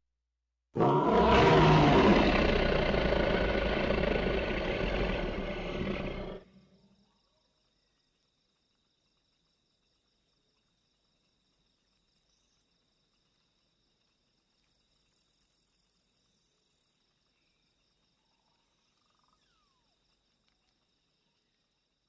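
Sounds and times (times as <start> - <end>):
faint insects chirring: 0.8 - 22.0.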